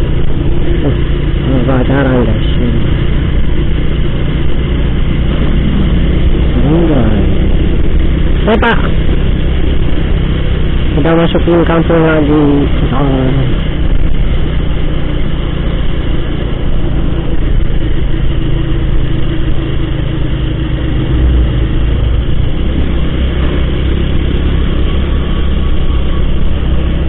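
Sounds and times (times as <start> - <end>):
motorcycle engine running: 0.0 - 27.0
road rumble: 0.0 - 27.0.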